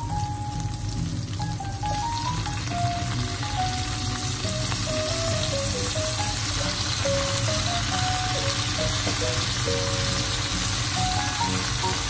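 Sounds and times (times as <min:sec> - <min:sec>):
background music: 0:00.0 - 0:12.0
garlic sizzling in oil: 0:00.0 - 0:12.0.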